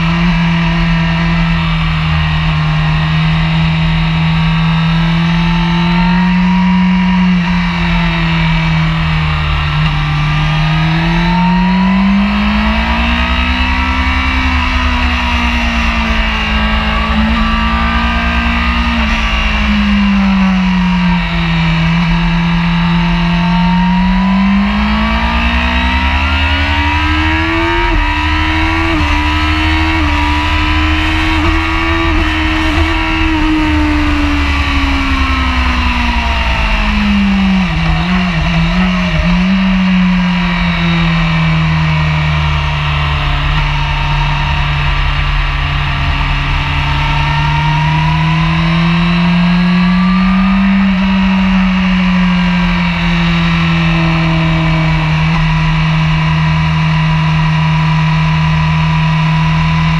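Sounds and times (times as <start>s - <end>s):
low wind rumble: 0.0s - 59.9s
motorcycle engine at speed: 0.0s - 59.9s.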